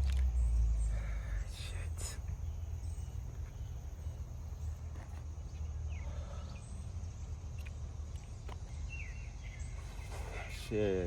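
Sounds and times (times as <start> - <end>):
faint chirp: 0.0 - 11.0.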